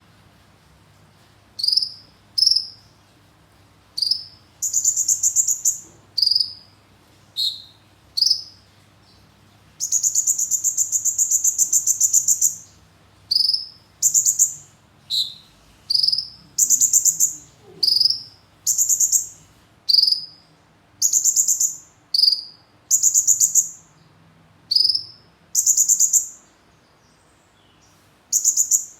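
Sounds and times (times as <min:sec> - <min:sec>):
songbird singing: 0:01.6 - 0:03.1, 0:04.0 - 0:28.9.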